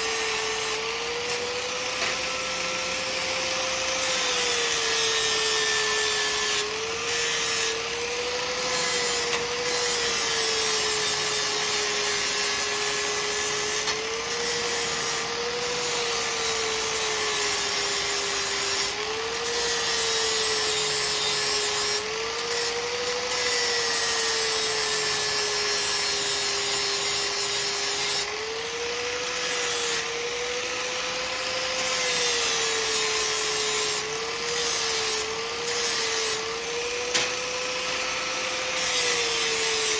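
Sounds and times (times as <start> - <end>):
power grinder grinding metal: 0.0 - 39.9.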